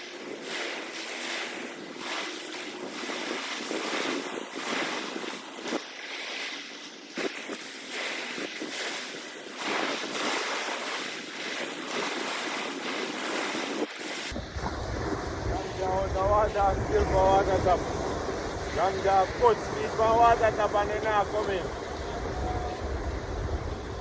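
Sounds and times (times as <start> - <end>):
sea water splashing: 0.0 - 24.0.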